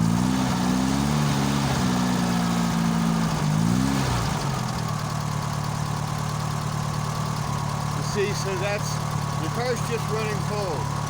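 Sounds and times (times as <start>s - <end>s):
cold car engine revving unevenly: 0.0s - 11.0s.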